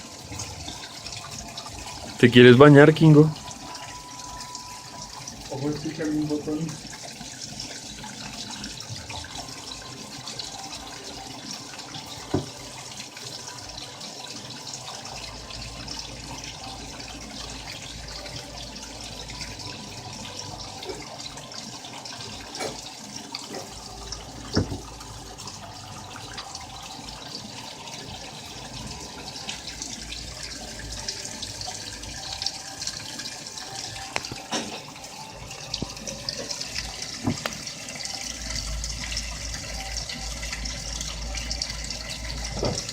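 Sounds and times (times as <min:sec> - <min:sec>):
water sloshing in washing machine: 0:00.0 - 0:42.9.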